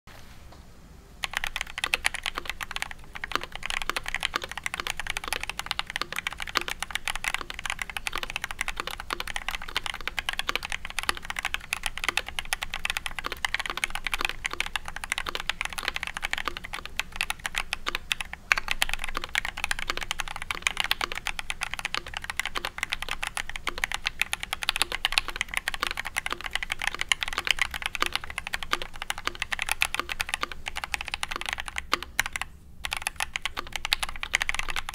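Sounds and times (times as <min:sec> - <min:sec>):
fast mechanical keyboard typing: 0:01.2 - 0:34.9.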